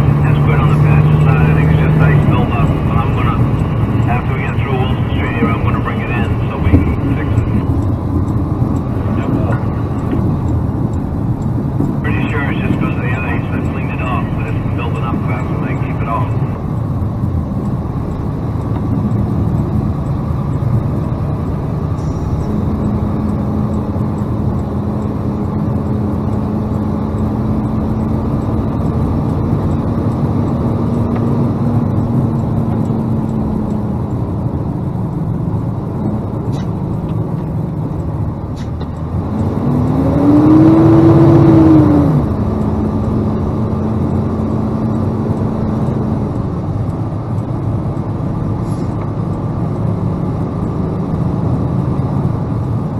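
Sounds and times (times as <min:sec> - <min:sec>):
road noise: 0:00.0 - 0:52.9
truck engine drone: 0:00.0 - 0:52.9.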